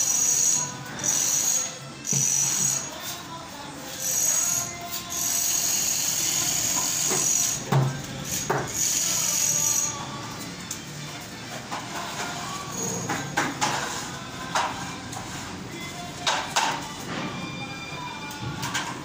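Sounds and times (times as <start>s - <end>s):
tools scraping over plaster: 0.0s - 10.5s, 11.6s - 16.8s.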